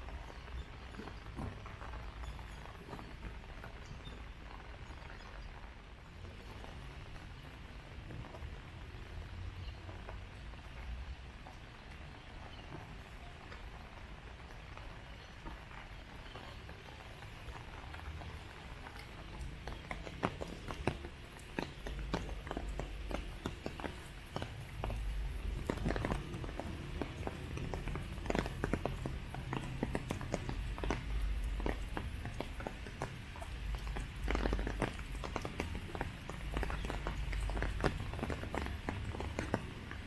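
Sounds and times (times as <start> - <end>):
footsteps on wet paving: 0.0 - 40.0
rain drip taps: 0.0 - 40.0
rain hiss: 0.0 - 40.0.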